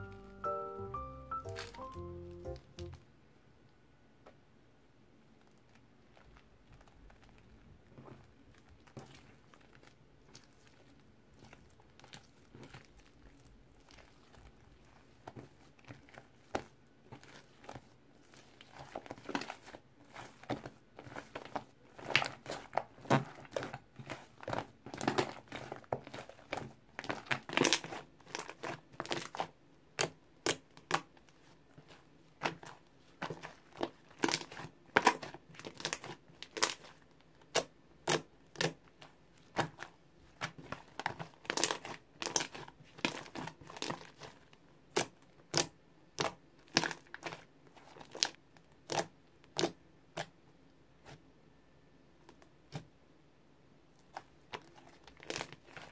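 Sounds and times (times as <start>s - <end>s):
hands kneading wet slime: 0.0s - 3.0s, 5.4s - 51.4s, 54.0s - 55.9s.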